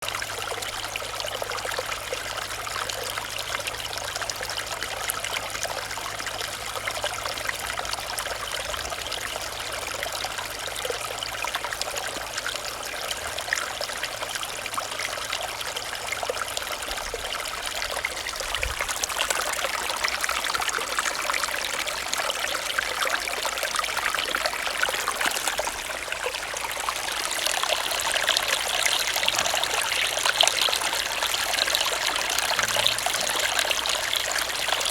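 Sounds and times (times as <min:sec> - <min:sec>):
stream babbling: 0:00.0 - 0:34.9.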